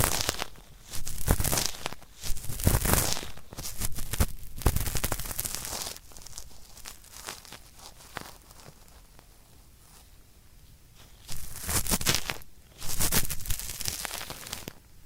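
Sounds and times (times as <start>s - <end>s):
scratchy rubbing in the ear: 0.0s - 10.1s, 11.0s - 14.8s.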